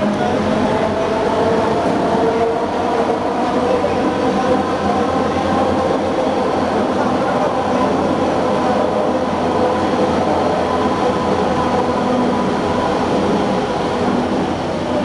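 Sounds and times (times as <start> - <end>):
train car rumble on track: 0.0 - 15.0.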